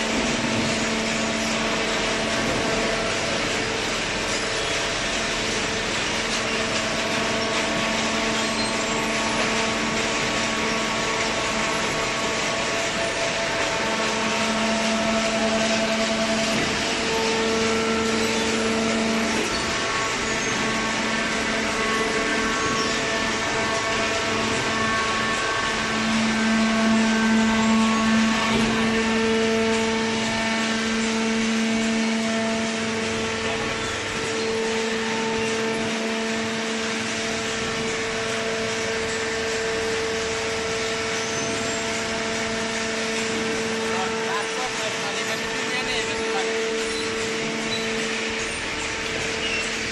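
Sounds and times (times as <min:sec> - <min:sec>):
hydraulic baling press running: 0:00.0 - 0:49.9.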